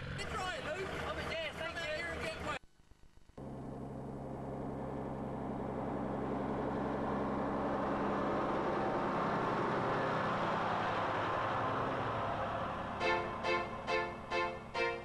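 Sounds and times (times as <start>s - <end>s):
tractor diesel engine running: 0.0s - 2.6s, 3.4s - 15.0s.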